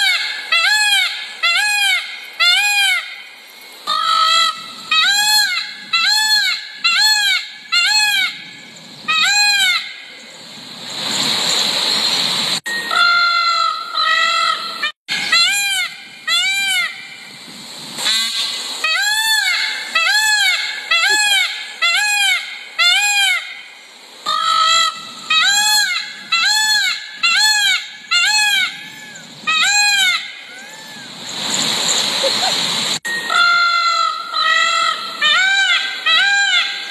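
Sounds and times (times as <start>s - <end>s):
peacock calls: 0.0s - 10.2s, 12.9s - 17.3s, 18.1s - 31.2s, 32.2s - 36.9s.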